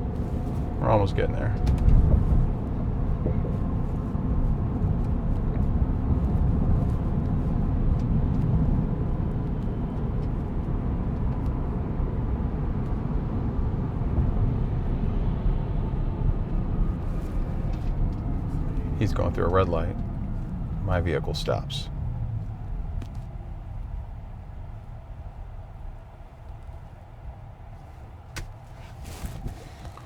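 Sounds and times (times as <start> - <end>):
road and tyre rumble in cabin: 0.0 - 30.0.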